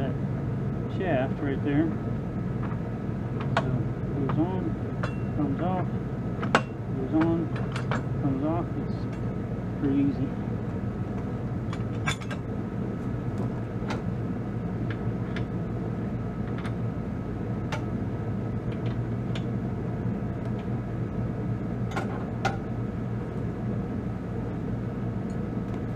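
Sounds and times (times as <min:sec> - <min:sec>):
tractor diesel engine idling: 0:00.0 - 0:21.8.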